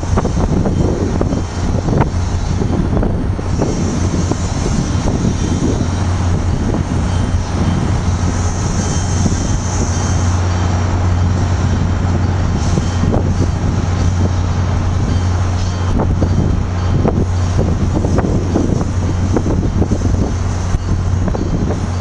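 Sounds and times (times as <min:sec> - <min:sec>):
locomotive engine humming: 0:00.0 - 0:22.0
train wheels clattering on rails: 0:00.0 - 0:22.0.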